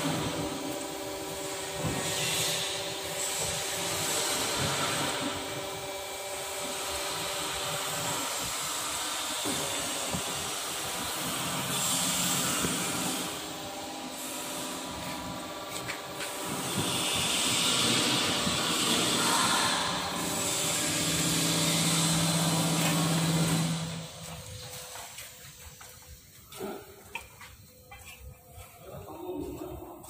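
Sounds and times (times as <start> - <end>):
factory machinery hum and hiss: 0.0 - 30.0.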